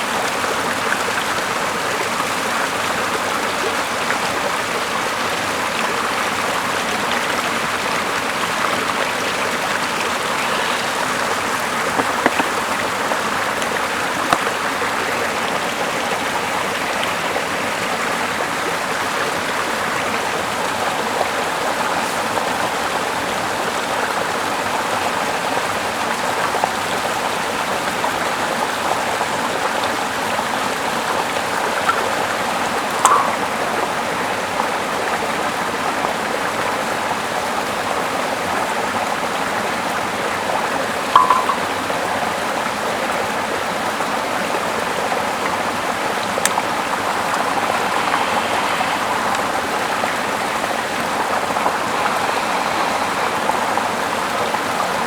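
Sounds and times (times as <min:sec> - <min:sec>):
running water rushing: 0:00.0 - 0:42.6, 0:43.2 - 0:55.0.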